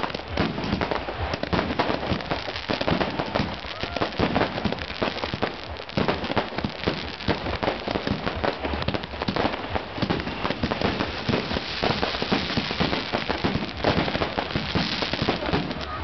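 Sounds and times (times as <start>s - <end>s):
fireworks bangs and crackling pops: 0.0s - 16.0s.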